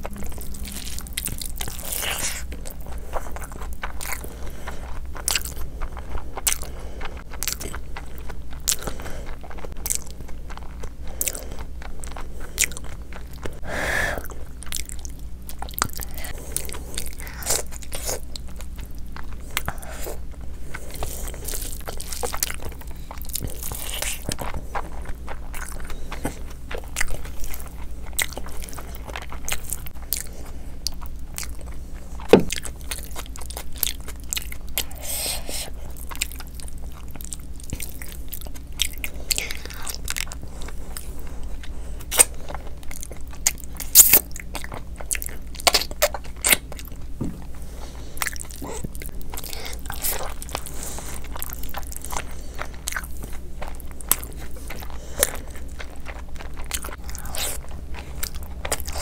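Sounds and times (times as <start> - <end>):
wet chewing and lip smacks: 0.0 - 13.6, 14.2 - 59.0
steady low hum: 0.0 - 59.0.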